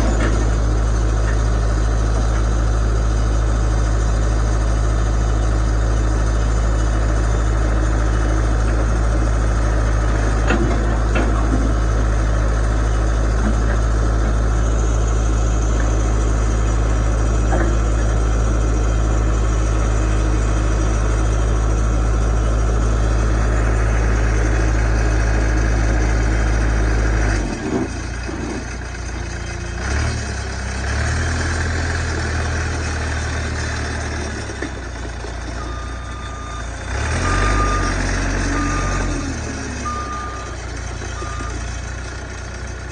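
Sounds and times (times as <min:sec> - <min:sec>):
backhoe diesel engine idling: 0:00.0 - 0:42.9.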